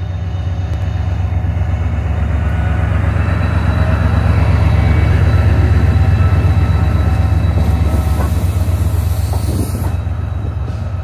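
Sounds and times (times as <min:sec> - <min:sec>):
diesel locomotive engine throbbing: 0:00.0 - 0:11.0.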